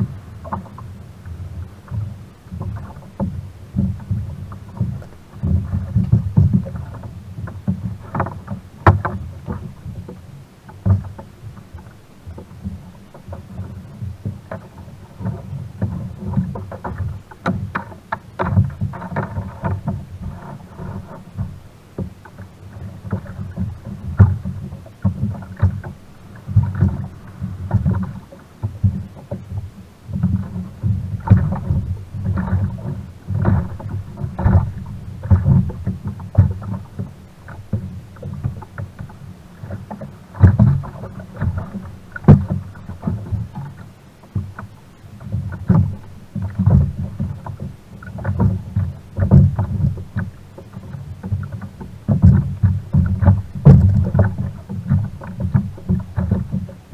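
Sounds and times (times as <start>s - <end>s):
waves slapping against kayak hull: 0.0s - 56.9s.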